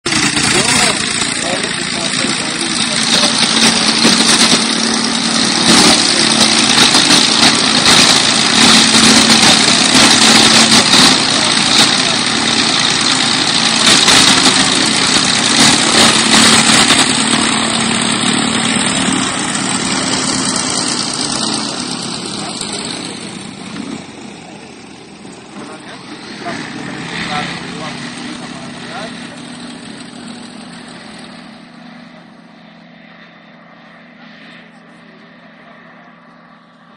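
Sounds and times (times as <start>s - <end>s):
light aircraft engine and propeller: 0.0s - 36.9s.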